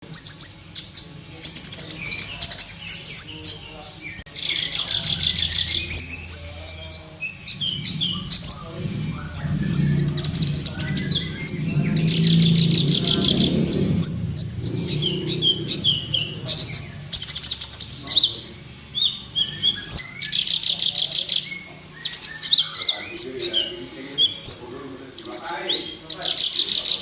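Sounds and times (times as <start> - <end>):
bird buzzing trills: 0.0 - 27.0
bird chirping: 0.0 - 27.0.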